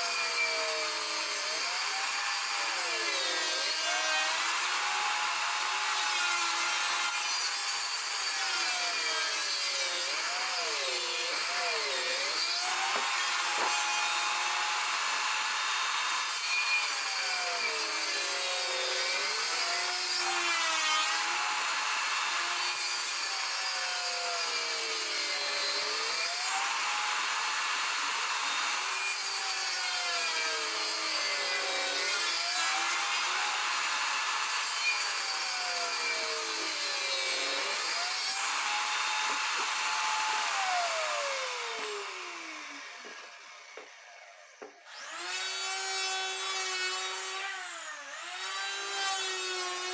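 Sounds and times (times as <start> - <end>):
table saw cutting wood: 0.0 - 49.9.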